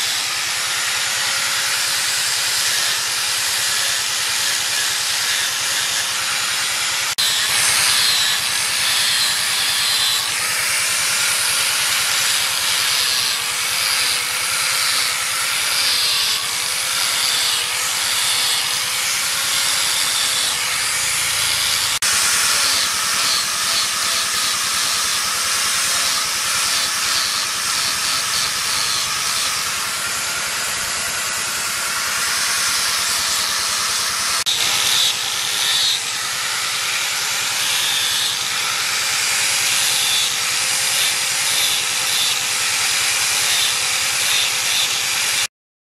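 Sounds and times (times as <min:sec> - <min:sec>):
angle grinder sanding wood: 0:00.0 - 0:45.5.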